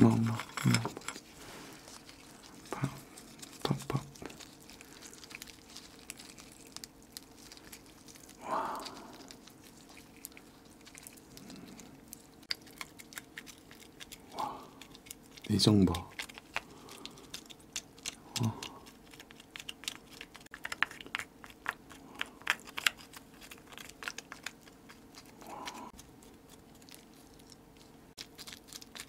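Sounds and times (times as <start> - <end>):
crab shell crackling: 0.0 - 29.0.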